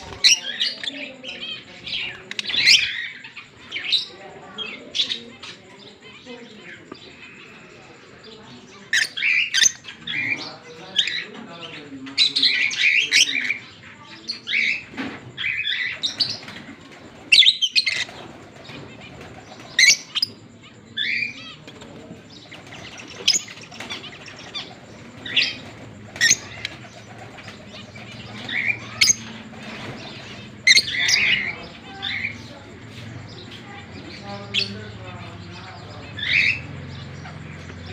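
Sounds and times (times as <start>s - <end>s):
lovebirds chirping: 0.0s - 37.9s.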